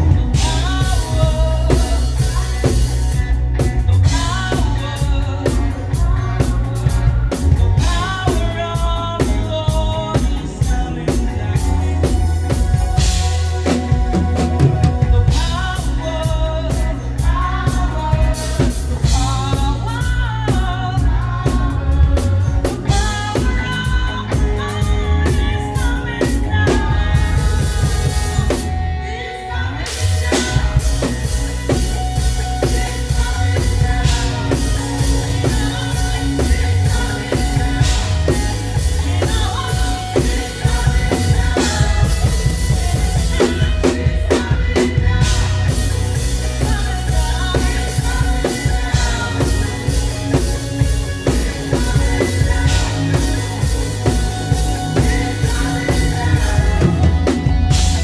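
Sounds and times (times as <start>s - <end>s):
heavy bass drum: 0.0s - 28.8s, 30.0s - 58.0s
bass guitar: 0.0s - 58.0s
live band playing: 0.0s - 58.0s
people singing: 0.0s - 58.0s.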